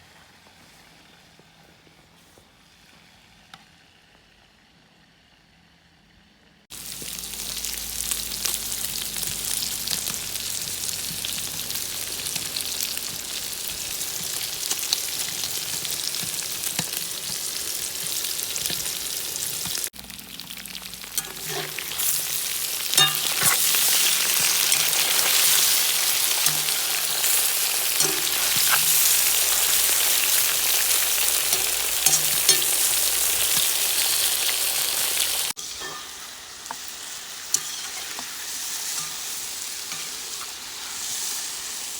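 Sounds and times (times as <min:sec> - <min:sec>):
hot oil sizzling: 0:06.7 - 0:41.9.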